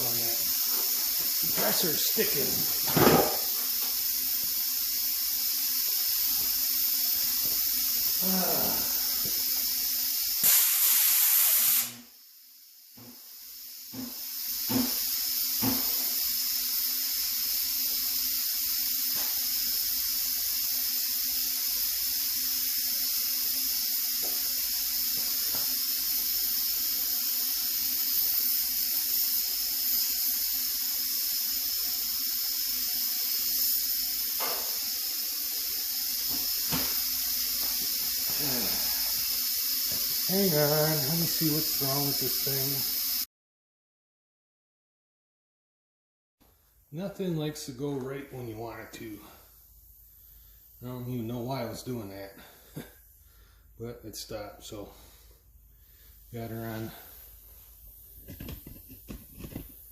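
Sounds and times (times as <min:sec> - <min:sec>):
compressed air hissing: 0:00.0 - 0:43.3, 0:47.0 - 0:59.9.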